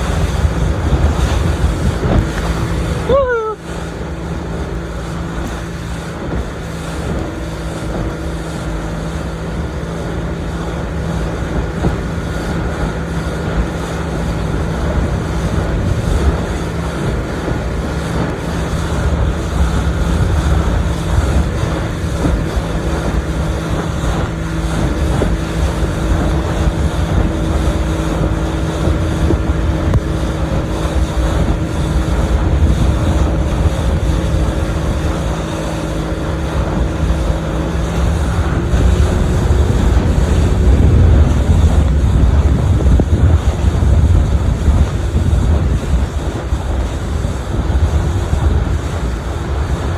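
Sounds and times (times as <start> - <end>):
boat motor running: 0.0 - 49.9
wind buffeting microphone: 0.0 - 49.9.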